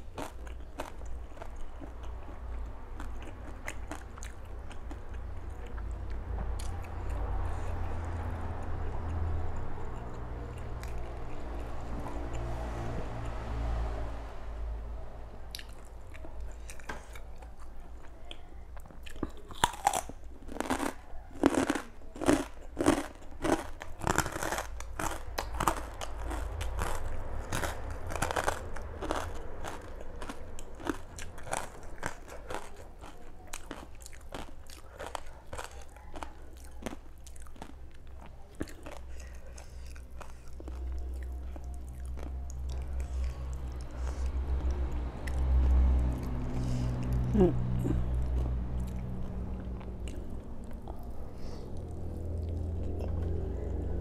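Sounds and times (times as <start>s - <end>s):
crunchy chewing: 0.0s - 13.6s, 15.5s - 54.0s.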